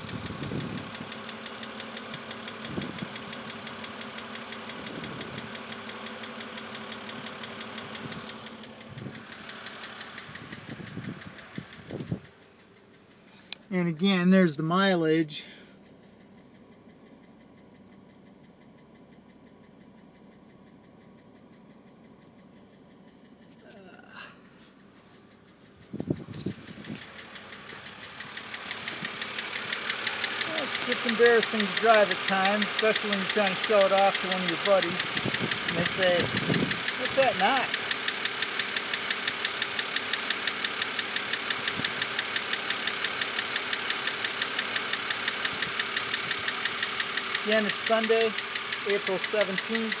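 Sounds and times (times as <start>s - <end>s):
rapid ticking engine knock: 0.0s - 14.0s, 15.5s - 23.6s, 24.8s - 50.0s
car engine running: 0.0s - 50.0s.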